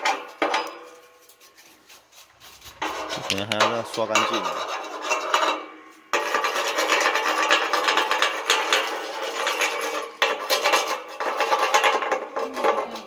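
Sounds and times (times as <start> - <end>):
chipping hammer scraping steel: 0.0 - 13.0.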